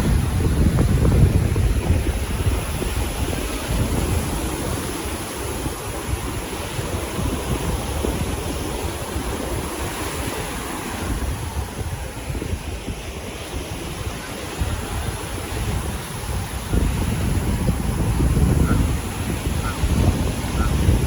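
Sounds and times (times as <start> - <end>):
sea surf breaking on beach: 0.0 - 21.0
wind buffeting microphone: 0.0 - 21.0.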